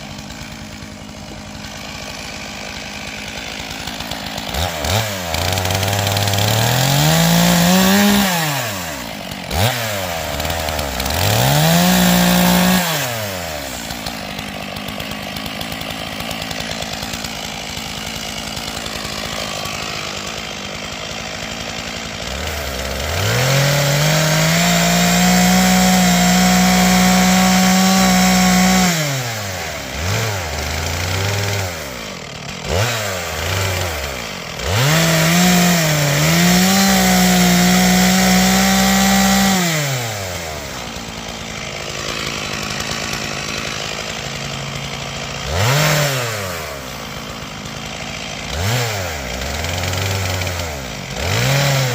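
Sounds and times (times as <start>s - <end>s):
chainsaw cutting logs: 0.0s - 51.9s
chainsaw revving: 0.0s - 51.9s.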